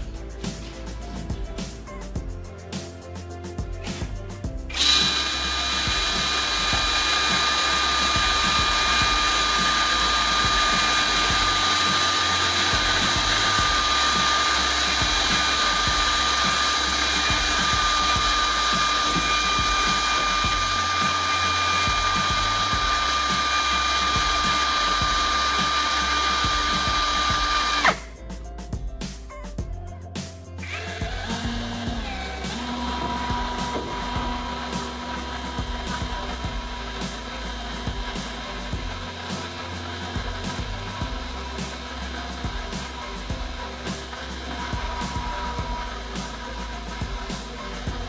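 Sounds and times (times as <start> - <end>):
background music: 0.0 - 48.0
power tool motor whining: 4.6 - 28.1, 30.6 - 48.0.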